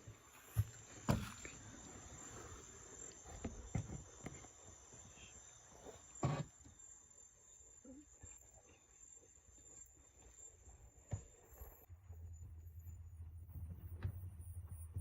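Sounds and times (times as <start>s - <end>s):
high-pitched insect drone: 0.3s - 13.2s.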